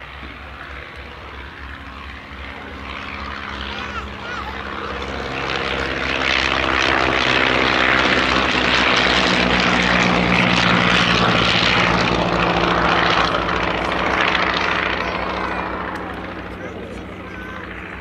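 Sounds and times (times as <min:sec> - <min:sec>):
biplane engines droning: 0:00.0 - 0:18.0.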